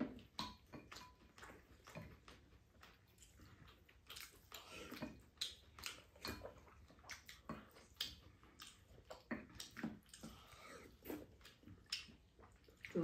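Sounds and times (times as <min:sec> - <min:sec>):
chewing and mouth noises: 0:00.0 - 0:13.0.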